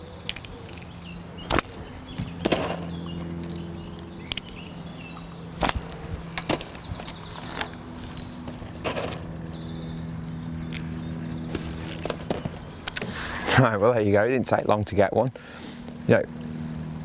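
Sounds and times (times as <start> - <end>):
birdsong: 0.0 - 17.0
steady low hum: 0.0 - 17.0.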